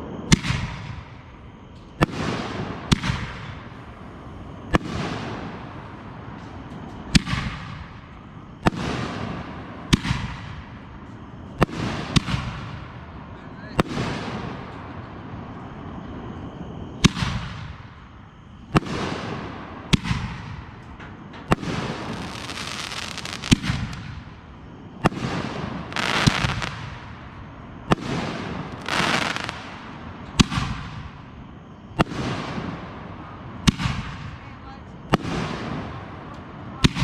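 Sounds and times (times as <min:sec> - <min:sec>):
fireworks crackle and hiss: 0:00.0 - 0:37.0
fireworks bangs: 0:01.8 - 0:16.4, 0:17.0 - 0:37.0.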